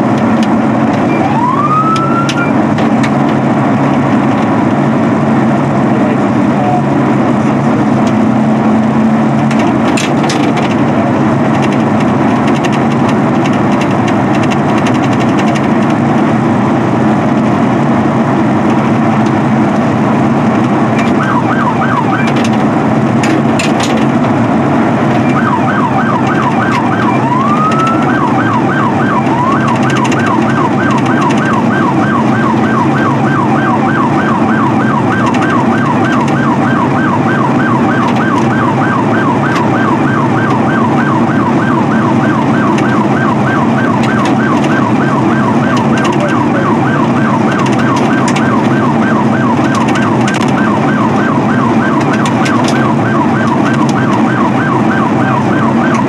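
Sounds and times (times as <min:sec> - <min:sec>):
car engine and road noise: 0:00.0 - 0:56.0
police siren yelping: 0:00.0 - 0:56.0.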